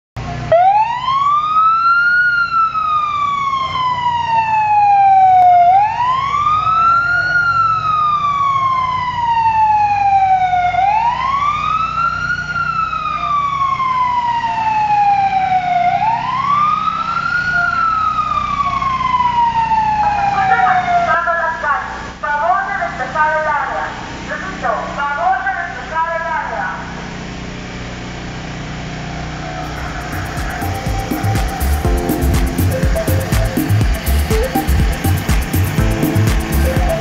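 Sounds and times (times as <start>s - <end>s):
fire engine siren wailing: 0.2s - 27.0s, 28.9s - 37.0s.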